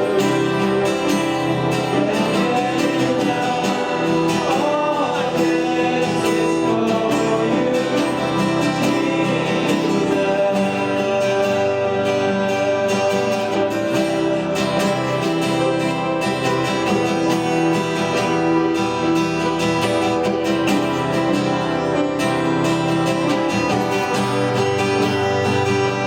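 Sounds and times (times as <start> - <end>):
strummed acoustic guitar music: 0.0 - 26.0.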